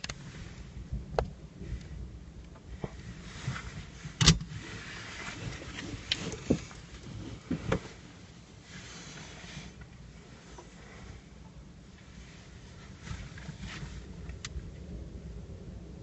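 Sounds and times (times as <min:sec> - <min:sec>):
faint hiss: 0:00.0 - 0:15.2.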